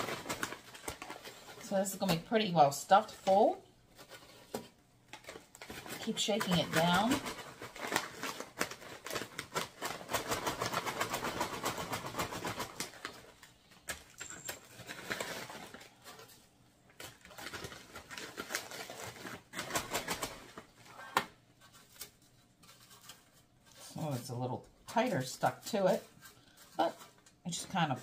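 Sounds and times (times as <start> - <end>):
dry crumbly pieces crackling: 0.0 - 28.0
foil bag crinkling: 0.0 - 28.0.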